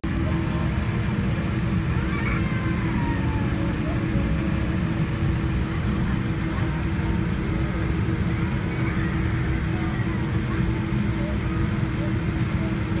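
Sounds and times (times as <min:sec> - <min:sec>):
airliner cabin rumble: 0:00.0 - 0:13.0
constant cabin hum: 0:00.0 - 0:13.0.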